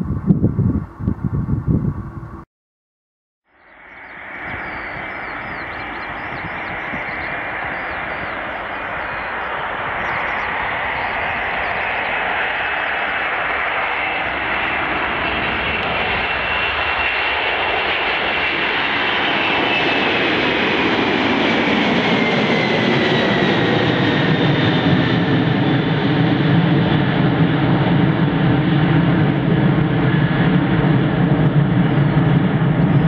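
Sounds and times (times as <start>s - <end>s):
jet engines whining: 3.7s - 33.0s.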